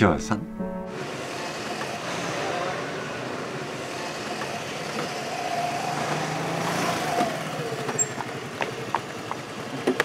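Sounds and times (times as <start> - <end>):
motor scooter engine: 0.9 - 10.0.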